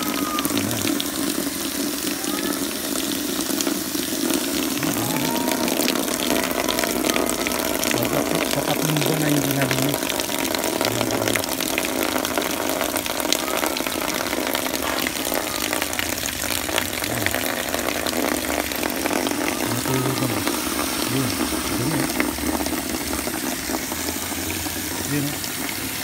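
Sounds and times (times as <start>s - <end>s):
hose water splashing into basin: 0.0s - 26.0s.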